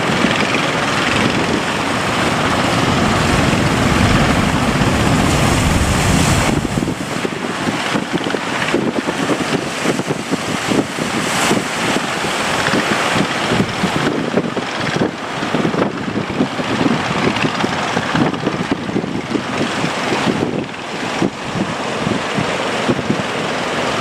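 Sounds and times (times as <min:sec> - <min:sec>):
wind and water rushing: 0:00.0 - 0:24.0
wind buffeting microphone: 0:00.0 - 0:24.0.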